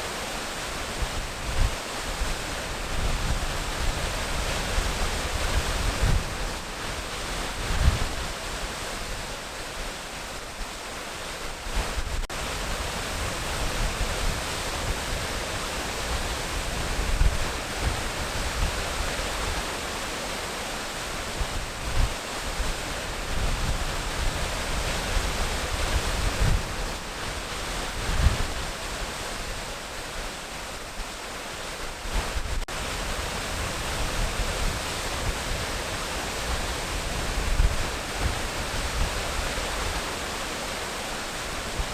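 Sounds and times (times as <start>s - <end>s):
waterfall rushing water: 0.0s - 41.9s.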